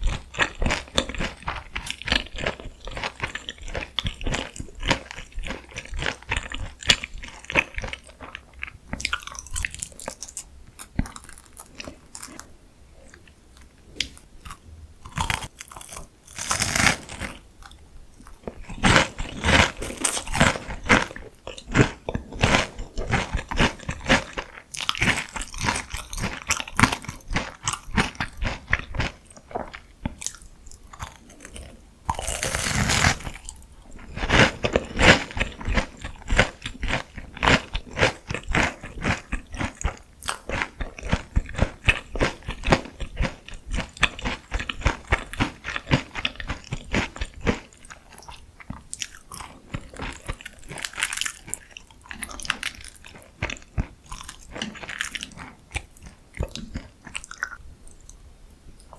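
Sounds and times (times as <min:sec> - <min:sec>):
crunching and chewing fried food: 0:00.0 - 0:58.2.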